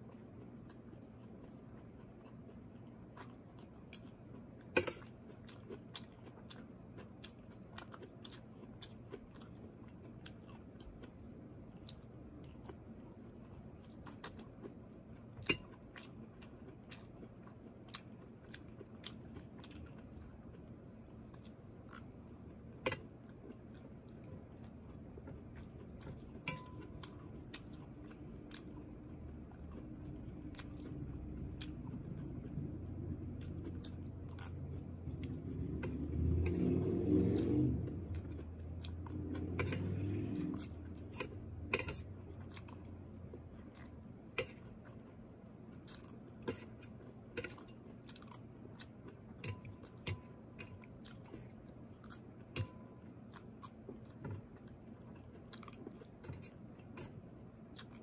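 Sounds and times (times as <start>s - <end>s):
chewing crunchy broccoli: 0.0s - 58.0s.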